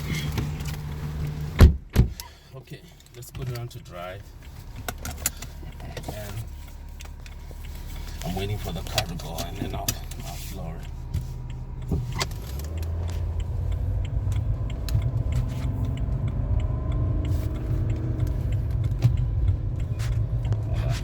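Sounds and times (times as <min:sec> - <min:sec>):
diesel engine accelerating: 0:00.0 - 0:01.9, 0:02.5 - 0:21.0.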